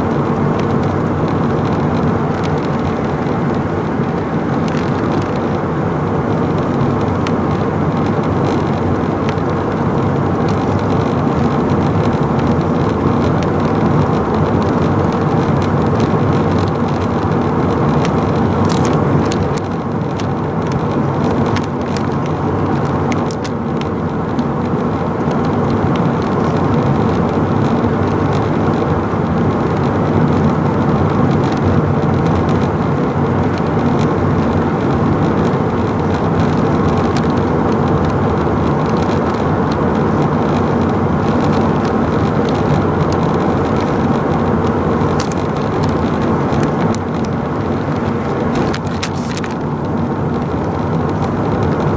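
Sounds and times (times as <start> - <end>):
vehicle noise rumble and rush: 0.0 - 51.9.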